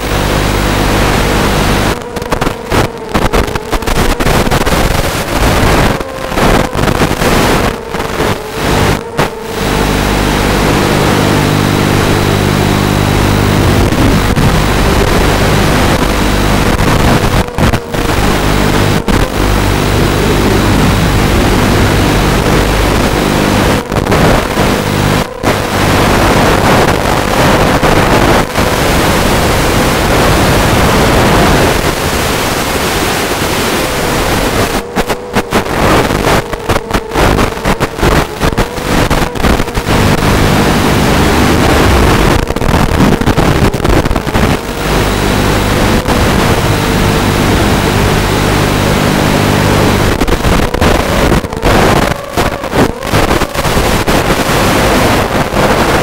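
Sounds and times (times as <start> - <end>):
video link hiss and buzz: 0.0 - 56.0.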